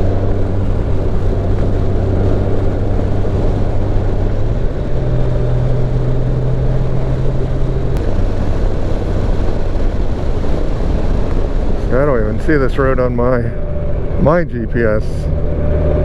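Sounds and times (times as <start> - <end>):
motorcycle engine running: 0.0 - 16.0
wind rush: 0.0 - 16.0.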